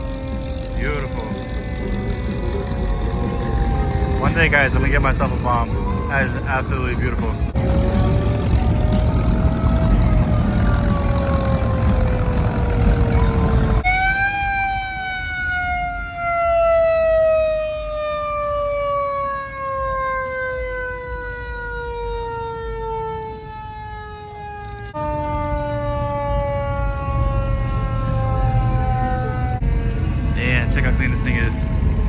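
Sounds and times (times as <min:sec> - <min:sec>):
low rumble of engines: 0:00.0 - 0:32.0
siren falling wail: 0:00.0 - 0:32.0.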